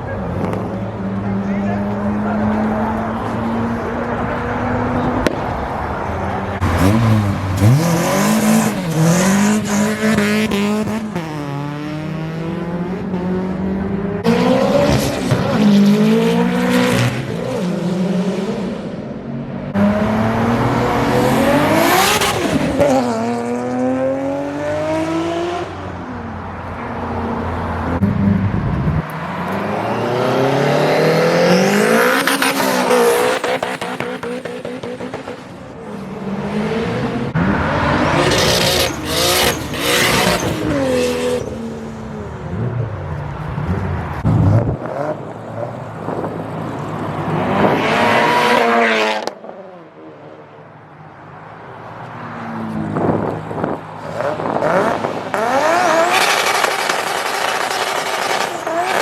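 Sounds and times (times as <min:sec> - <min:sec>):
car engines revving hard: 0:00.0 - 0:50.3, 0:51.8 - 0:59.0.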